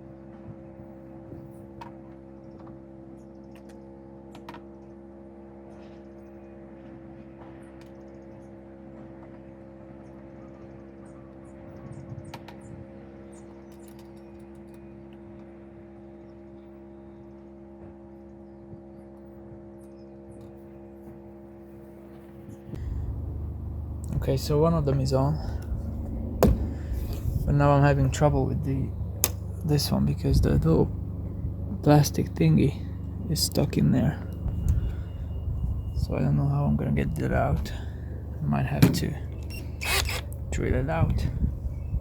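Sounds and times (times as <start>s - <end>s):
steady background hum: 0.0s - 42.0s.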